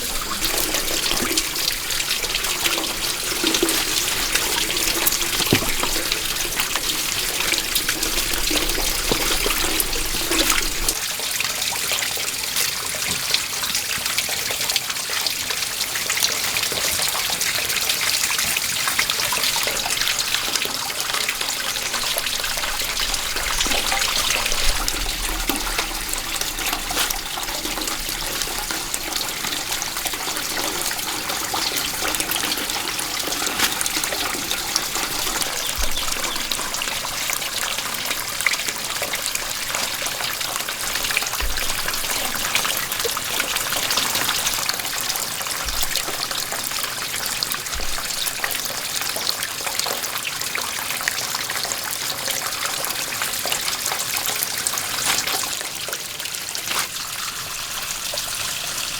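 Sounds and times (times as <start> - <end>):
water trickling and splashing: 0.0 - 58.9.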